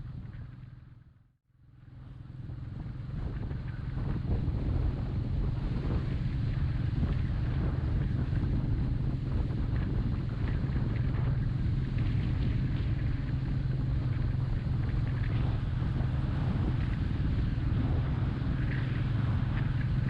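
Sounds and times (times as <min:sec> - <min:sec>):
wind noise on microphone: 0:00.0 - 0:00.8, 0:01.8 - 0:20.0
motorcycle engine running: 0:00.0 - 0:01.2, 0:01.8 - 0:20.0.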